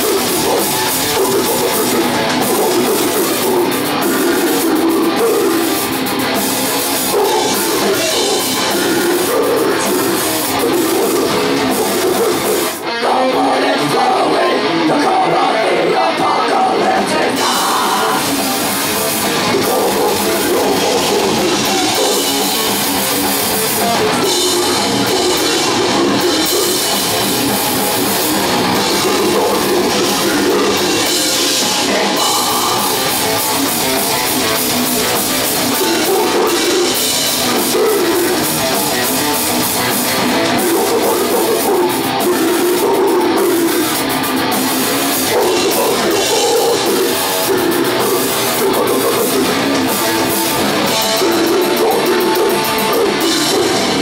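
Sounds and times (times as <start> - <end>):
fast drum kit: 0.0 - 13.0, 16.1 - 54.0
distorted electric guitars and bass: 0.0 - 54.0.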